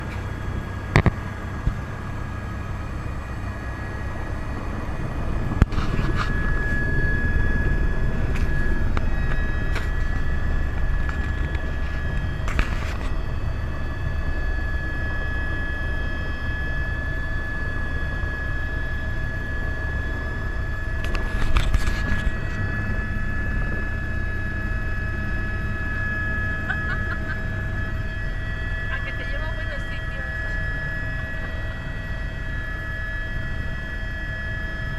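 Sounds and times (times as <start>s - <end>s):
helicopter low rumble: 0.0s - 34.9s
turbine whine: 0.0s - 34.9s.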